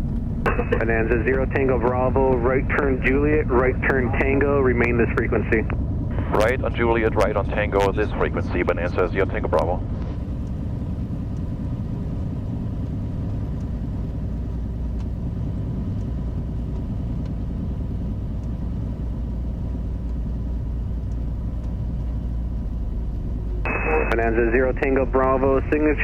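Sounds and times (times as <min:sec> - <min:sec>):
propeller plane engine humming: 0:00.0 - 0:26.0.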